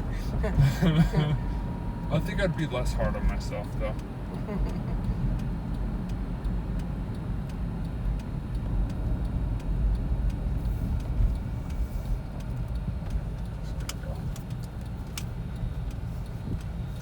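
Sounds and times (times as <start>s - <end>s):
car road and engine rumble: 0.0s - 17.0s
turn signal ticking: 0.0s - 17.0s.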